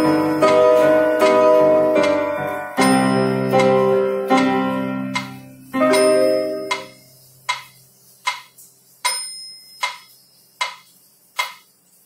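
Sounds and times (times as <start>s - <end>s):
electronic keyboard chord: 0.0s - 10.4s
metronome ding: 0.0s - 11.6s
metronome ticking: 0.0s - 11.7s.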